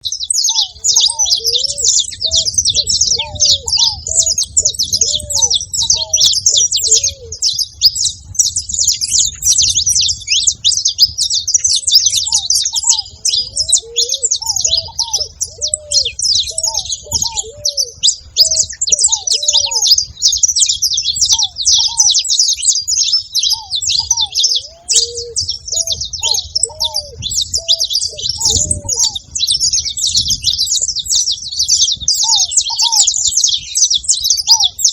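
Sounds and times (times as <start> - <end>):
finches chirping and singing: 0.0 - 34.9.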